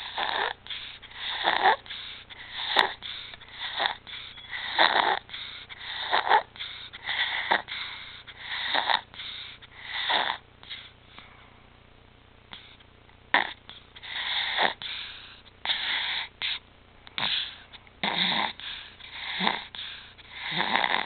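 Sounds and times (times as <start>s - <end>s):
infant rasping breathing: 0.0s - 10.9s, 13.4s - 16.6s, 17.2s - 21.0s.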